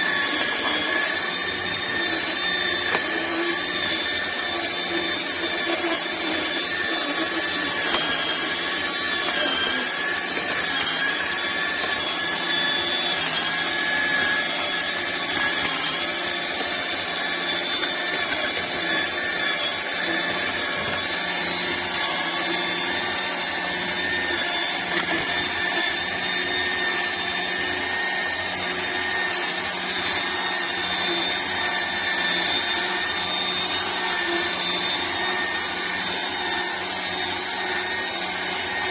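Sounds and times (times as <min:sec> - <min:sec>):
juicer motor humming and whining: 0:00.0 - 0:38.9.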